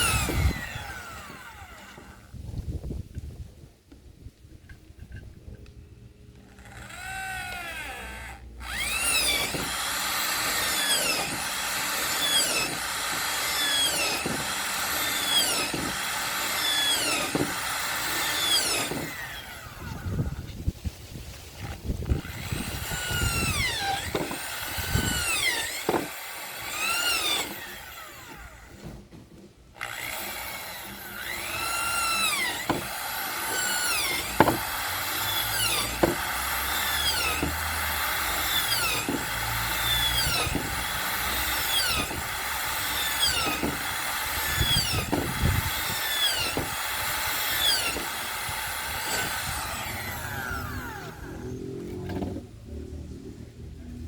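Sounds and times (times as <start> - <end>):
saw cutting through wood: 0.0 - 2.4, 6.4 - 20.7, 21.6 - 54.0.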